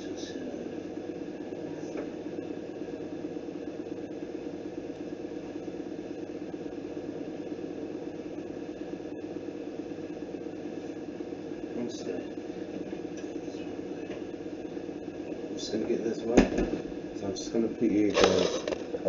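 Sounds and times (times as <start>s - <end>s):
low mechanical hum with flutter: 0.0s - 19.0s.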